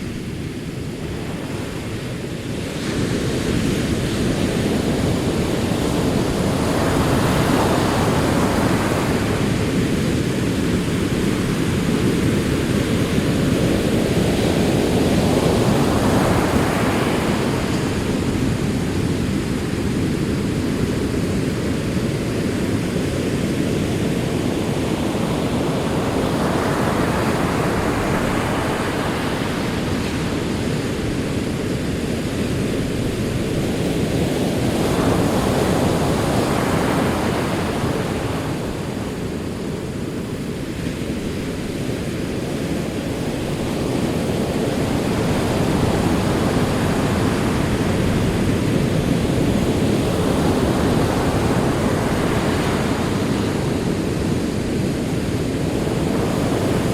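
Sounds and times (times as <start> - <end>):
sea waves breaking on shore: 0.0 - 56.9.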